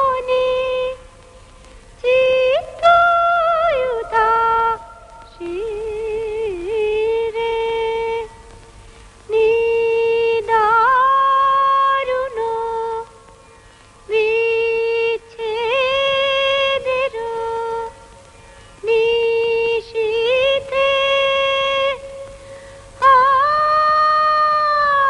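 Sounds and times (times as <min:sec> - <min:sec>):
woman singing slowly: 0:00.0 - 0:25.0.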